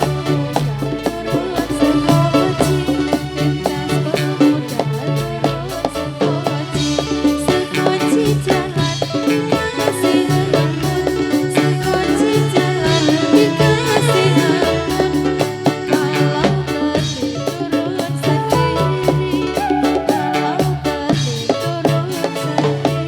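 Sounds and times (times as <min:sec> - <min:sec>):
melody line: 0:00.0 - 0:22.7
repeating bass line: 0:00.0 - 0:23.0
steady drum beat: 0:00.0 - 0:23.0.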